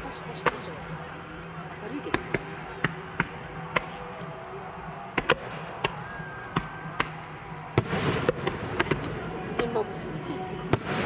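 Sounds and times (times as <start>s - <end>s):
insect chirring: 0.0s - 10.8s
firework crackle: 0.0s - 11.0s
distant firework bangs: 1.9s - 11.0s.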